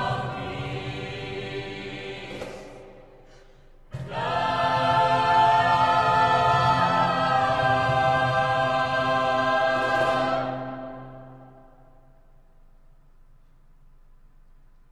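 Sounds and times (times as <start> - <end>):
mixed choir singing held chord: 0.0 - 12.3.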